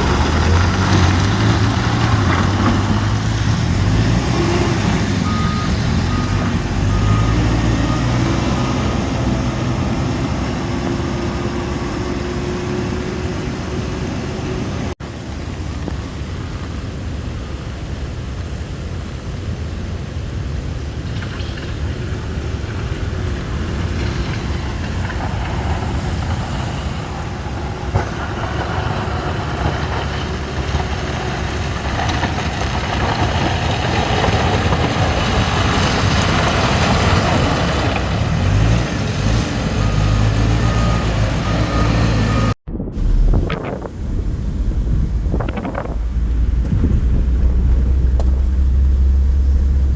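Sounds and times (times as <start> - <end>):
road and wind noise: 0.0 - 49.9
vehicle engine rumble: 0.0 - 49.9.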